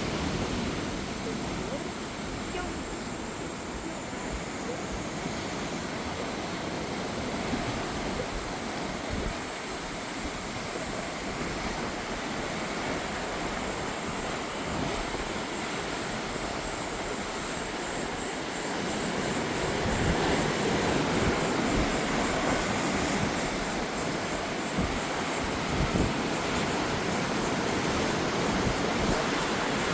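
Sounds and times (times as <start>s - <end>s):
sea waves washing ashore: 0.0s - 29.9s
wind: 0.0s - 29.9s.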